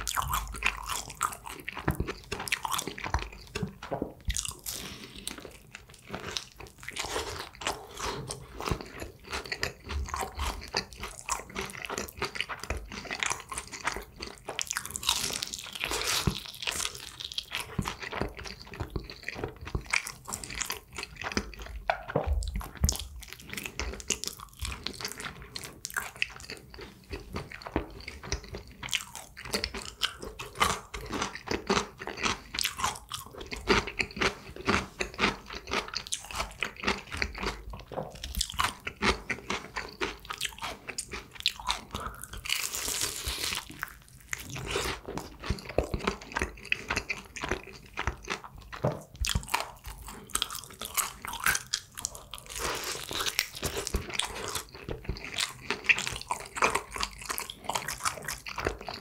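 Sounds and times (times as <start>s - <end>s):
chewing crispy fried chicken: 0.0s - 59.0s.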